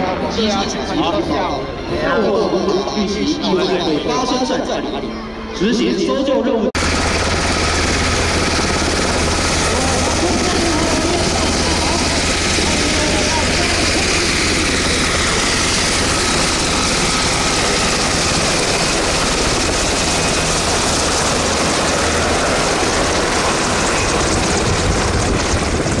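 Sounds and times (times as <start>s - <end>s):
helicopter rotor and turbine noise: 0.0s - 6.0s, 6.7s - 26.0s.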